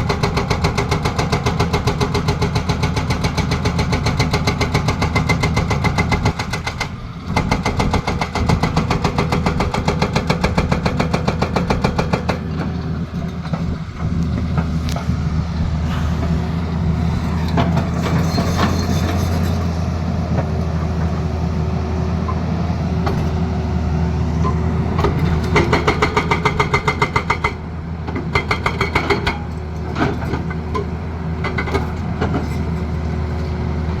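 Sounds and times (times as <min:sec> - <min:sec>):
diesel engine running under load: 0:00.0 - 0:34.0.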